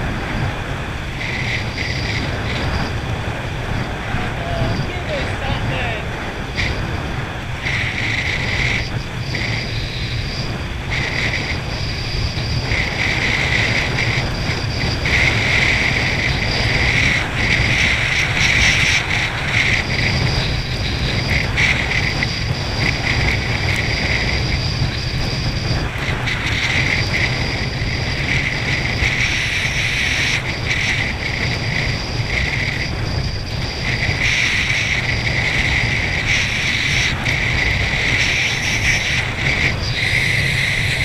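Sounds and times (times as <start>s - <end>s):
jet ski engine drone: 0.0s - 41.0s
wind buffeting microphone: 0.0s - 41.0s.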